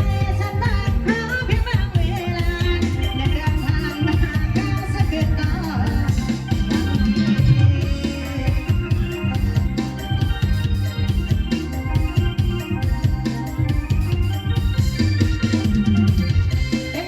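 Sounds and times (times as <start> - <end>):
electronic organ playing: 0.0 - 17.0
steady drum beat: 0.0 - 17.0.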